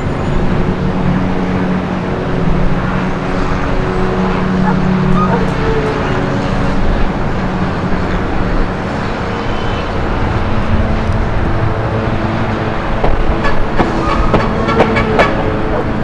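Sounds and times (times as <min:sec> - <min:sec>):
vehicle engines passing: 0:00.0 - 0:16.0.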